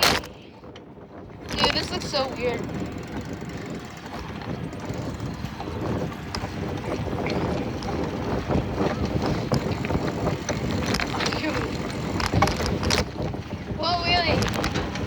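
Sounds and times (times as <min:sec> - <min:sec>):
faint clicks and rattles: 0:00.0 - 0:13.4, 0:14.0 - 0:15.0
wind buffeting microphone: 0:00.0 - 0:15.0.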